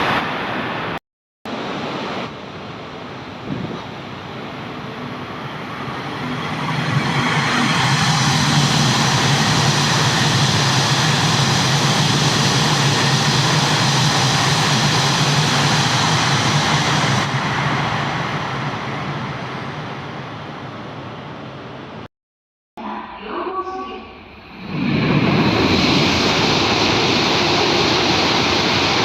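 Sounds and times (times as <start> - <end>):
high-speed train rushing past: 0.0 - 22.1, 23.8 - 29.0.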